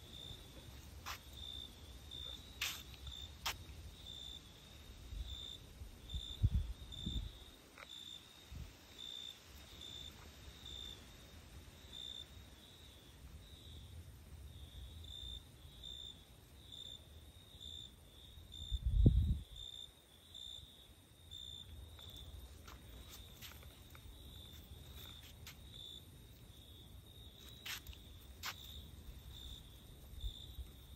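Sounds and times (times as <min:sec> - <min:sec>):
cricket chirping: 0:00.0 - 0:30.9.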